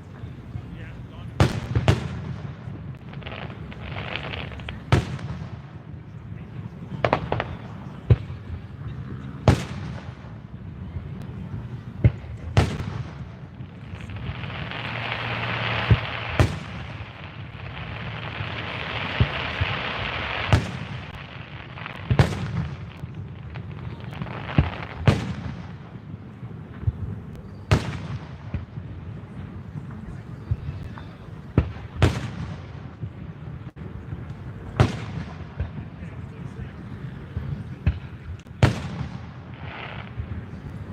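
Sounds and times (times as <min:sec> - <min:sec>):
fireworks crackling hiss: 0:00.0 - 0:10.4, 0:11.3 - 0:40.9
fireworks booming: 0:00.0 - 0:40.9.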